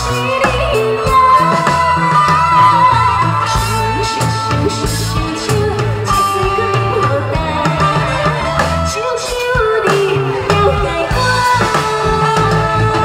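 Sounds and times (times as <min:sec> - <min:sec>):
backing music with drums and bass: 0:00.0 - 0:13.0
woman singing into a microphone: 0:00.0 - 0:13.0.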